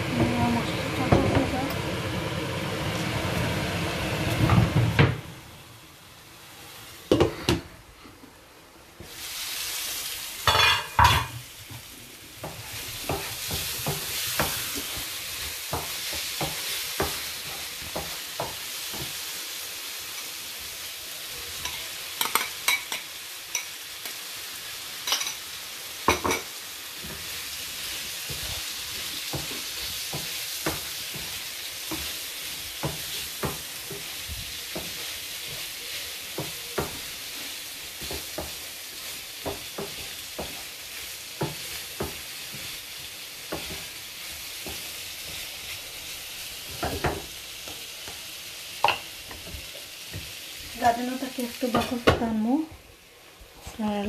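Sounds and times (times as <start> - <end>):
onions sizzling in a frying pan: 0.0 - 54.0.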